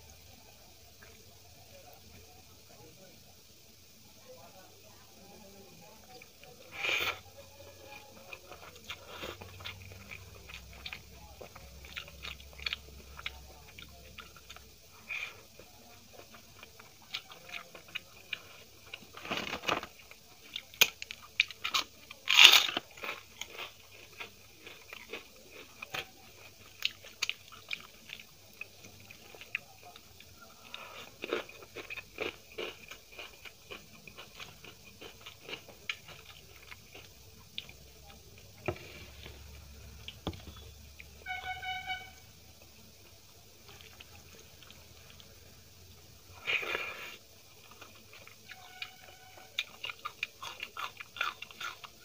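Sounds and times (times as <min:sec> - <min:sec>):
chewing with crisp crunches: 0:05.8 - 0:52.0.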